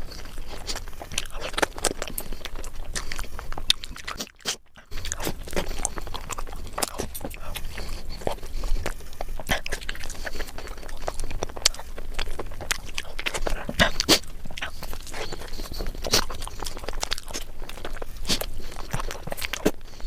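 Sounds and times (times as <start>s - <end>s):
chewing crunches and clicks: 0.0s - 20.0s.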